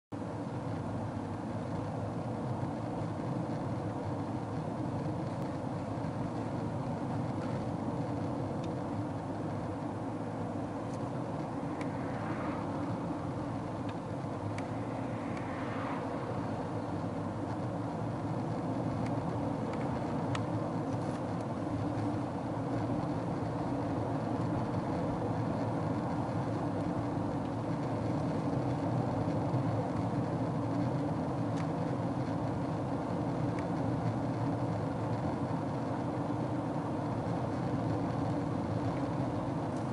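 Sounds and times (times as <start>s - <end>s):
car road noise from inside: 0.2s - 39.9s.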